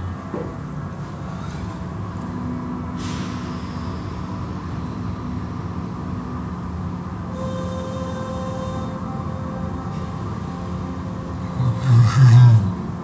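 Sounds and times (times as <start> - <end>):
car wash motors humming: 0.0 - 11.9.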